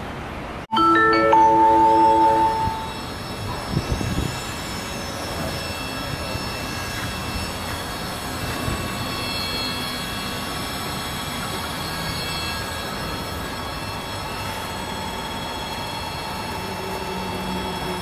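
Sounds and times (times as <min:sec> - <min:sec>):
bright ringing chime: 0:00.7 - 0:18.0
faint high whines: 0:00.7 - 0:18.0
machinery running: 0:00.8 - 0:18.0.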